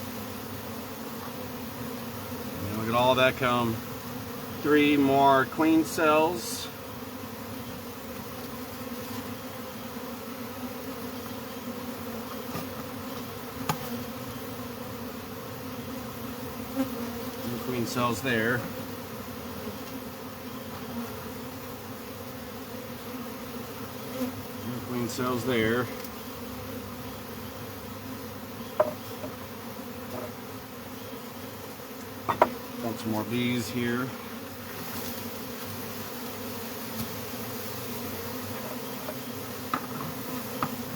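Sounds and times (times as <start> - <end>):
honeybees humming: 0.0 - 40.9.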